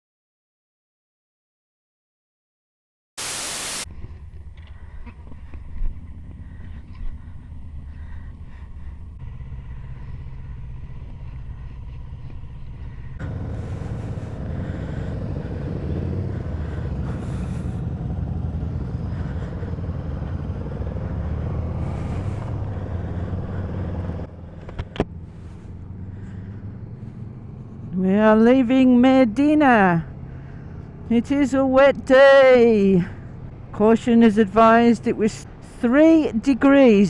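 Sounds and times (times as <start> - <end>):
motorcycle engine running: 3.9 - 34.8.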